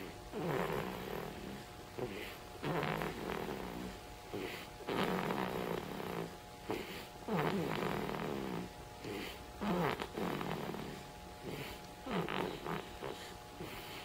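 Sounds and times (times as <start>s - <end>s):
baby snoring: 0.0s - 14.0s.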